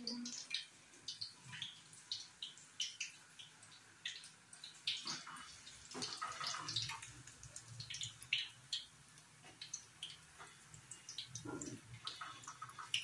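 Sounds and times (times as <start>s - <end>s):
batter deep-frying in oil: 0.0s - 13.0s.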